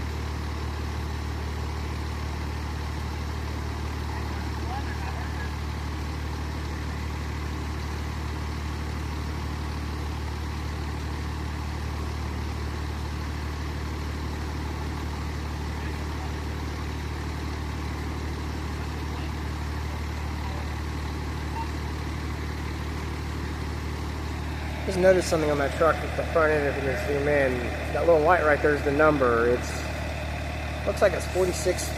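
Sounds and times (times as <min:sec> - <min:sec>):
truck engine idling: 0:00.0 - 0:31.9.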